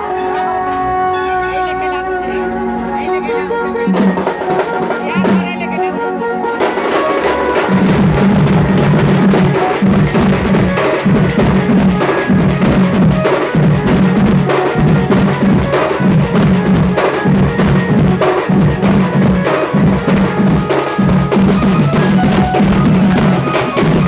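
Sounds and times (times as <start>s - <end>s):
fast folk drumming: 0.0s - 24.0s.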